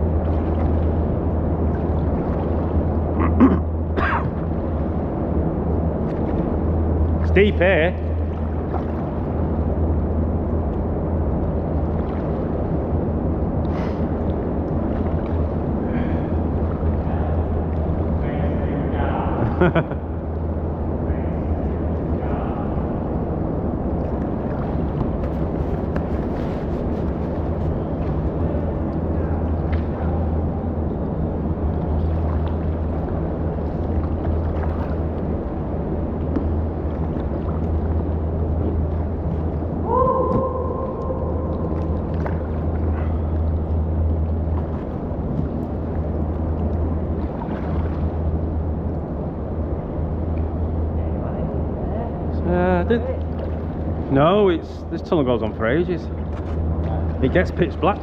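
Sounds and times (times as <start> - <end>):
deep constant drone: 0.0 - 58.0
river water echoing in tunnel: 0.0 - 58.0.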